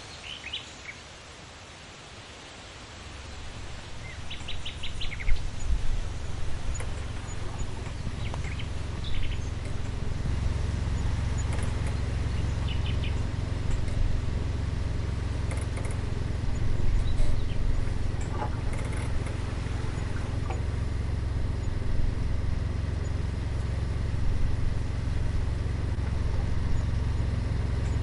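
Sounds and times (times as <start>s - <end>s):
small birds chirping: 0.0s - 1.0s, 3.4s - 28.0s
steady low rumble: 3.2s - 28.0s.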